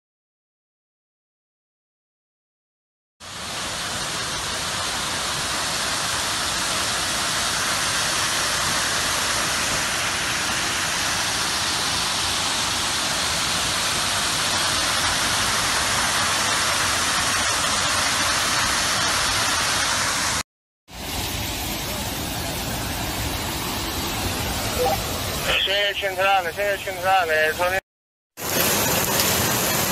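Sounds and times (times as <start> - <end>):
floodwater rushing into hole: 3.2 - 27.7, 28.4 - 29.9.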